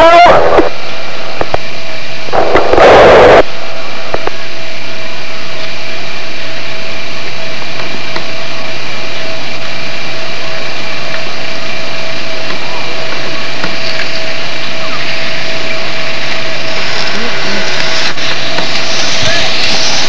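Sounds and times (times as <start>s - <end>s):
steady loud hiss: 0.0s - 20.0s
constant thin hum: 0.2s - 20.0s.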